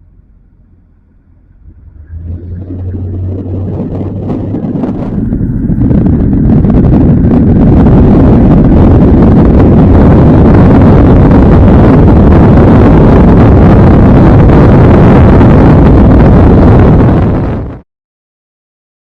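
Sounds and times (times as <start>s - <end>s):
vehicle road rumble: 0.0s - 17.8s
wind buffeting microphone: 0.0s - 17.8s.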